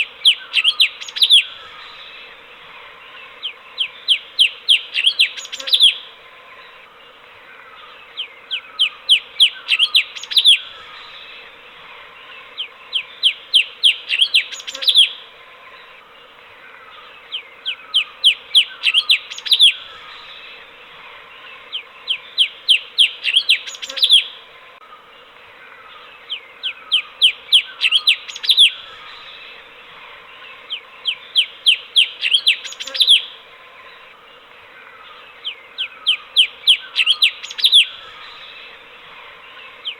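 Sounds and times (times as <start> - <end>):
bulbul singing: 0.0 - 20.8, 21.4 - 24.5, 25.2 - 34.3, 34.9 - 39.9.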